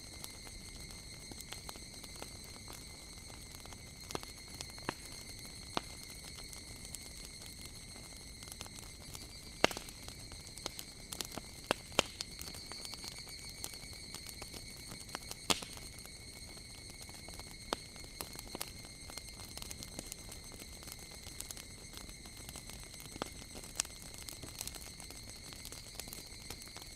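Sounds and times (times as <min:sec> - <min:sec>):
cicadas droning: 0:00.0 - 0:26.9
wood fire crackling: 0:00.1 - 0:26.9.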